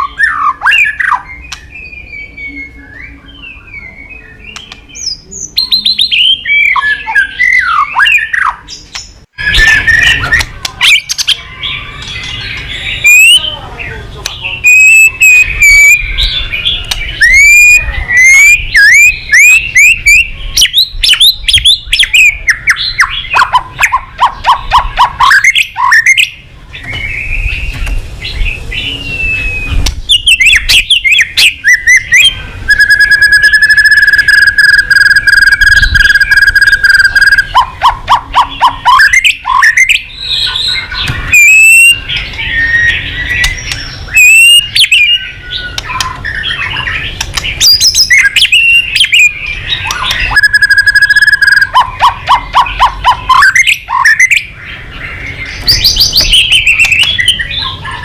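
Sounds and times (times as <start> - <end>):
songbird singing whistles: 0.0 - 13.6, 14.4 - 58.0.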